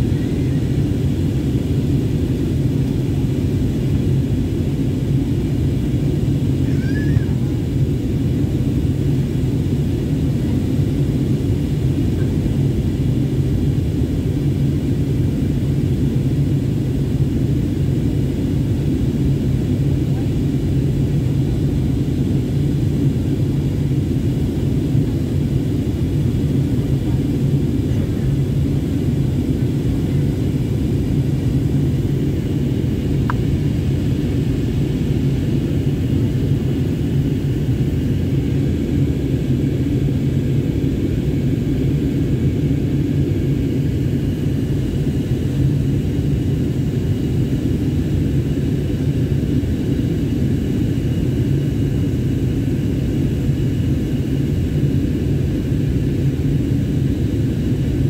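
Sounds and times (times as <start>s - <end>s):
jet engine cabin noise: 0.0s - 58.0s.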